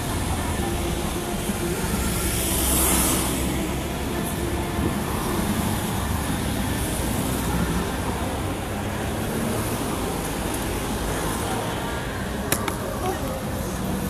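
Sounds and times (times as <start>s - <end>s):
bus engine rumble: 0.0s - 14.0s
cars passing close by: 0.0s - 14.0s.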